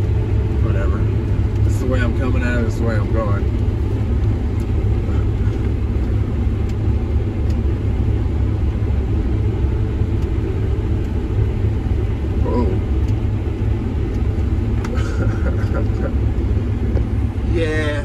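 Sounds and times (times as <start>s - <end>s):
combine harvester drone: 0.0s - 18.0s.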